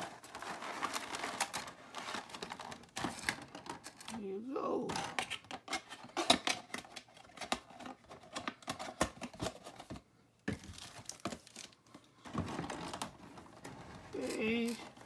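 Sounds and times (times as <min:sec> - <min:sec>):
packaging crinkling: 0:00.0 - 0:04.2, 0:05.0 - 0:15.0.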